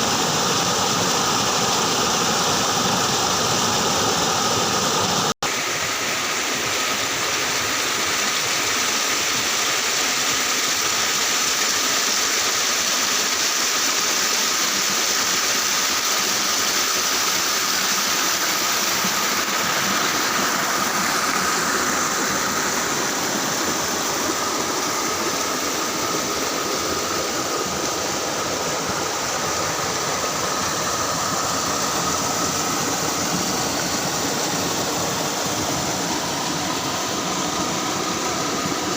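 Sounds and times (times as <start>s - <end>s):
water pouring over waterfall: 0.0s - 38.9s.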